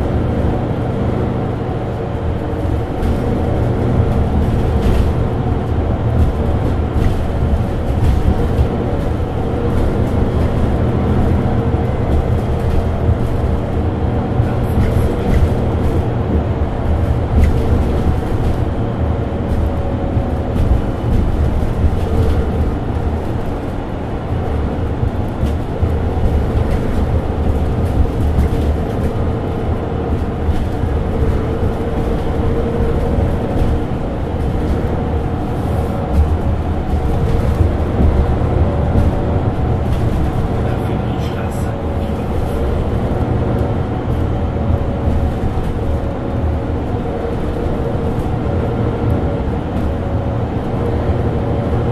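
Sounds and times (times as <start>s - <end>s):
bus diesel engine idling: 0.0s - 51.9s.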